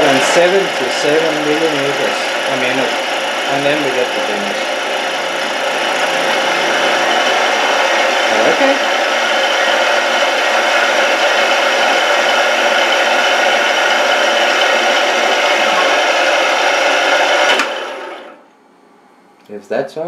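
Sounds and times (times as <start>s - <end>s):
milling machine cutting whir: 0.0s - 18.4s.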